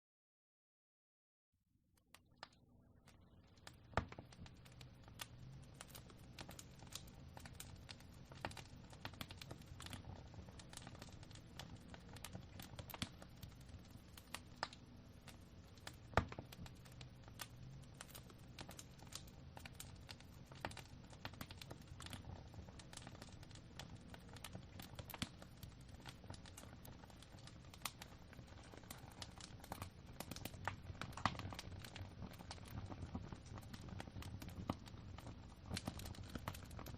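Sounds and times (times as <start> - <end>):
fire popping: 2.4 - 36.9
wood fire crackling: 2.4 - 36.9
low rumble of flames: 2.9 - 36.9.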